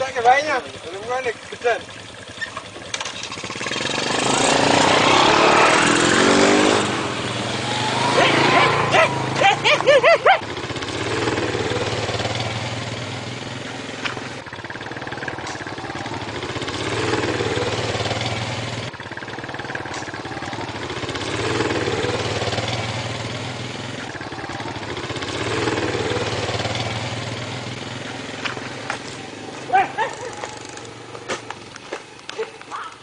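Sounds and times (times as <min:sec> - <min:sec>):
engine drone: 0:00.0 - 0:32.8.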